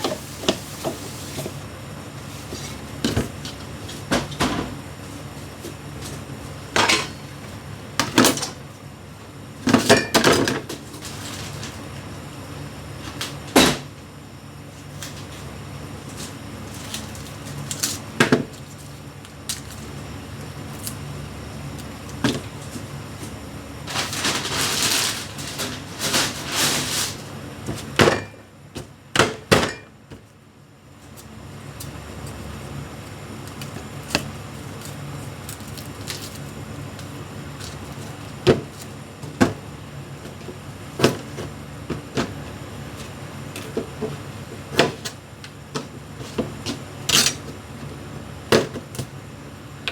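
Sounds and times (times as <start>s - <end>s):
steady hum: 0.0s - 49.9s.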